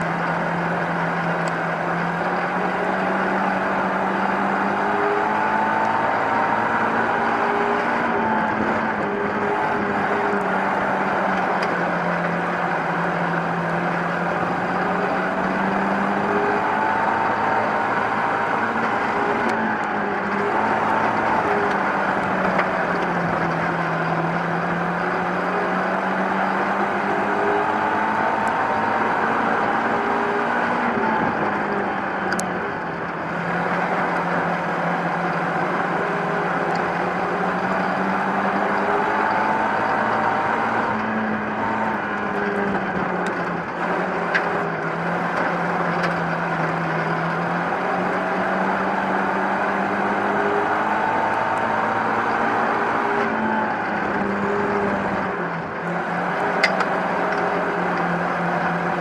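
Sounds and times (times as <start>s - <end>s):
race car engine running hard: 0.0s - 59.0s
wind and chassis noise: 0.0s - 59.0s.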